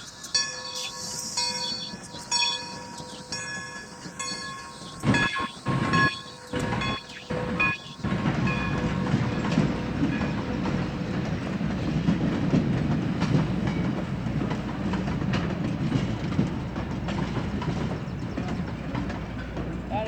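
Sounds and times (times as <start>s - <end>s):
steam train rumbling past: 0.0s - 20.0s
wheels clicking over rail joints: 0.0s - 20.0s.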